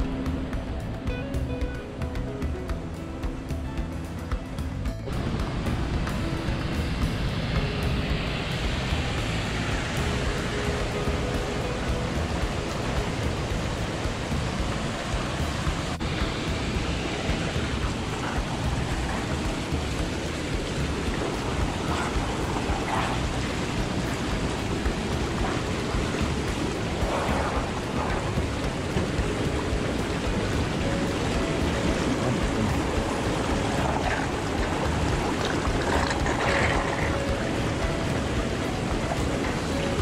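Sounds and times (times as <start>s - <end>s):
hot tub jets churning water: 0.0s - 40.0s.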